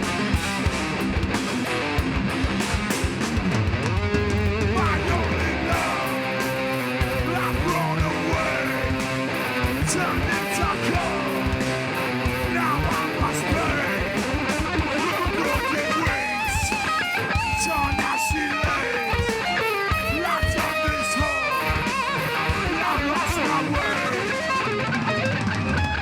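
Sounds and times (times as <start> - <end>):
distorted electric guitars strumming: 0.0 - 26.0
drums: 0.0 - 26.0
wavering high guitar line: 0.0 - 26.0.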